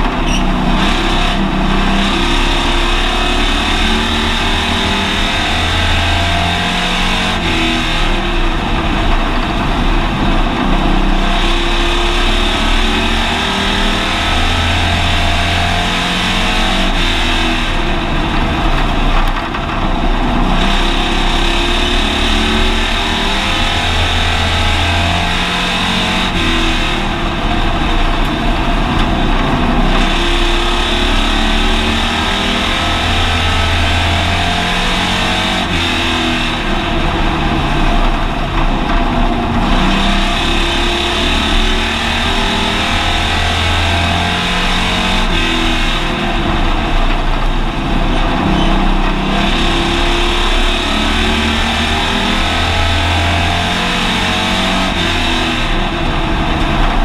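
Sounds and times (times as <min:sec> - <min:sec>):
race car engine from inside cabin: 0:00.0 - 0:57.0.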